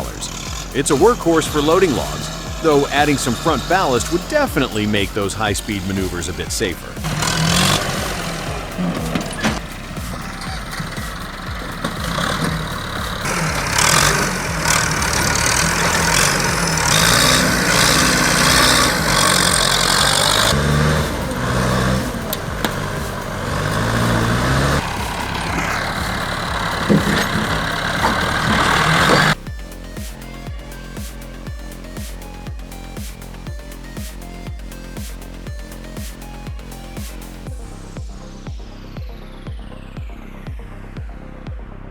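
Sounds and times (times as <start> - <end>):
loud rushing noise: 0.0 - 34.2
tractor diesel engine revving: 0.0 - 38.0.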